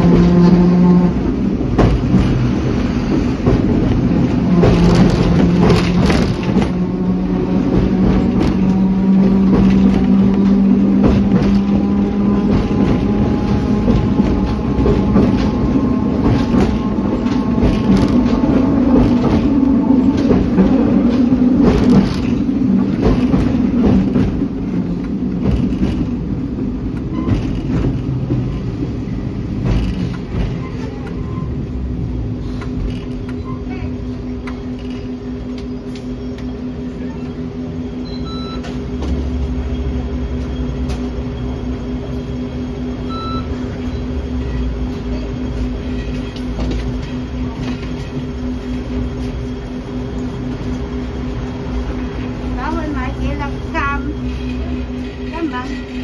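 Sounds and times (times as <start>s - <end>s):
electric tram drive hum: 0.0s - 56.0s
wheels clicking on rails: 0.0s - 56.0s
wheels rumbling: 0.0s - 56.0s.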